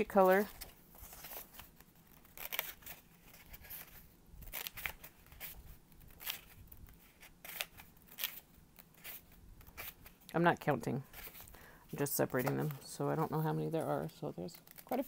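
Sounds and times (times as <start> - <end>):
paper rustling: 0.0 - 10.2, 11.1 - 15.0.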